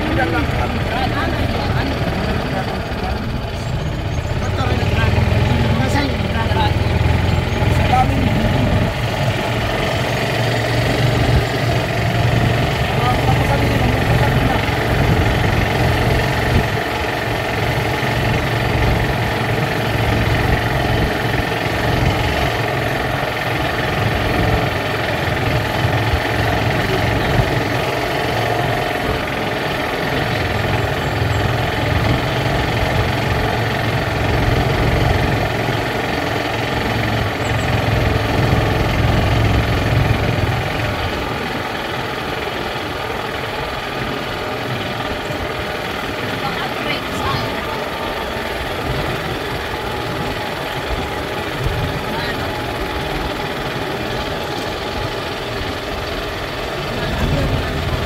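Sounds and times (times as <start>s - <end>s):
motor tricycle engine running: 0.0s - 58.0s.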